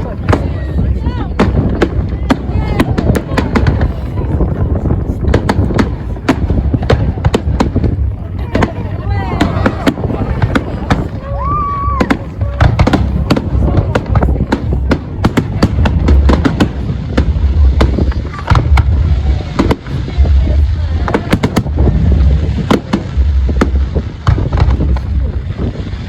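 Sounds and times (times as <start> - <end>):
deep pulsing rumble: 0.0 - 26.0
fireworks bangs and crackles: 0.0 - 26.0.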